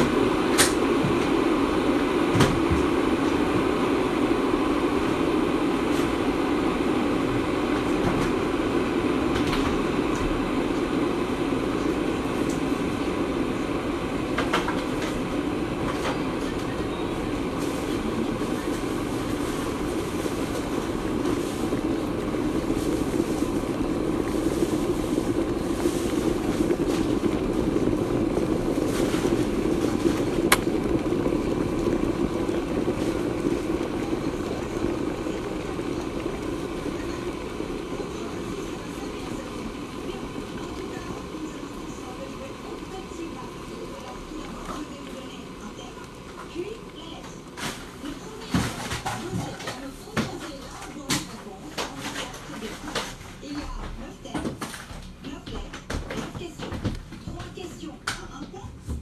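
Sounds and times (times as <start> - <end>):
fan whirring hum: 0.0 - 59.0.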